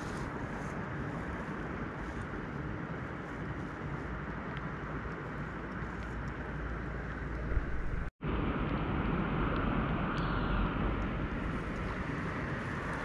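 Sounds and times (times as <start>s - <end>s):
outdoor rumble and hiss: 0.0s - 13.0s.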